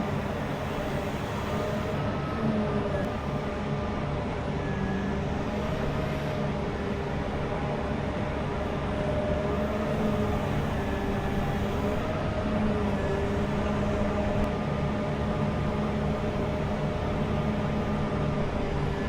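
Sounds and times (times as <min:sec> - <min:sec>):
heavy machine engine humming: 0:00.0 - 0:19.0.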